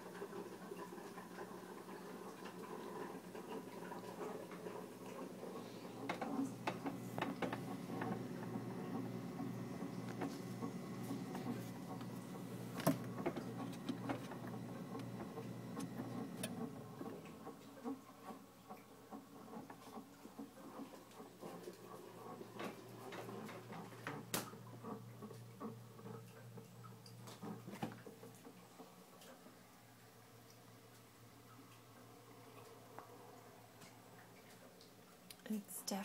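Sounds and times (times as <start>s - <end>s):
refrigerator fan humming and whining: 0.0s - 36.0s.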